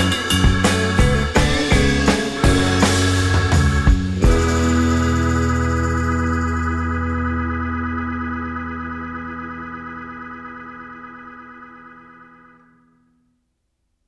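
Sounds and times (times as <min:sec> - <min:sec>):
held organ-like keyboard chord: 0:00.0 - 0:12.8.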